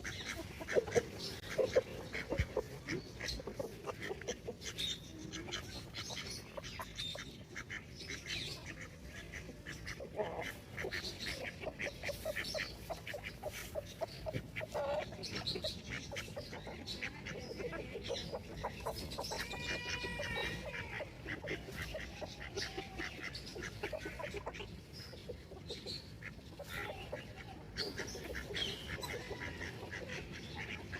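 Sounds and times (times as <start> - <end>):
chickens clucking: 0.0 - 30.9
chicks peeping: 0.0 - 30.9.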